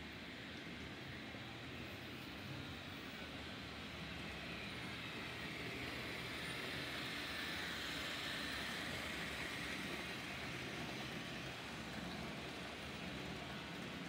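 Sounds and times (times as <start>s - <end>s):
model train motors whirring: 0.0s - 14.0s
wheels rolling on track: 0.0s - 14.0s.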